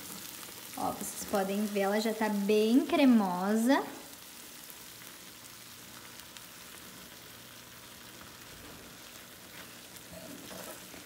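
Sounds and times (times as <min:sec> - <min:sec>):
sauce sizzling in frying pan: 0:00.0 - 0:11.0.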